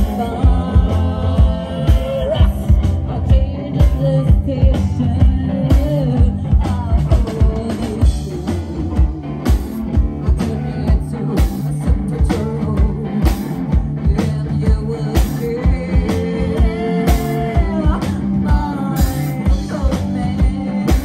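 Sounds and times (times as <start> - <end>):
rock music with singing: 0.0 - 21.0.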